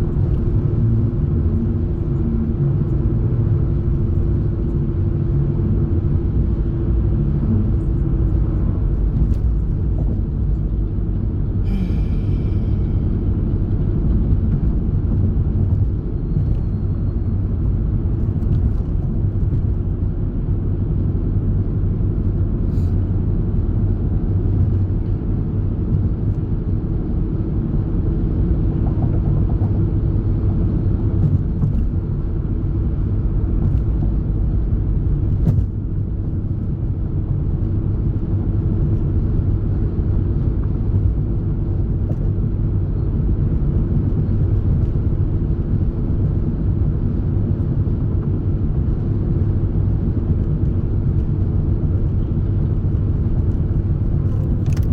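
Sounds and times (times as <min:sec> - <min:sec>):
constant hum: 0:00.0 - 0:54.9
vehicle cabin rumble: 0:00.0 - 0:54.9.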